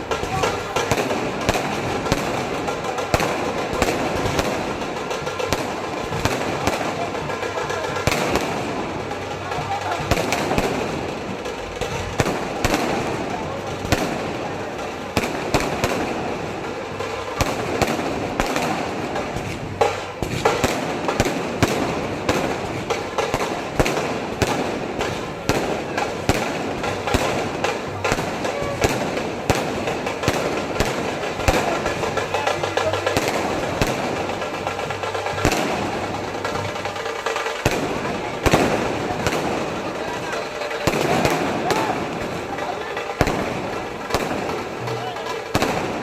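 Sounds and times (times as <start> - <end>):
crackling hiss: 0.0 - 46.0
firecracker cracks and bangs: 0.0 - 46.0.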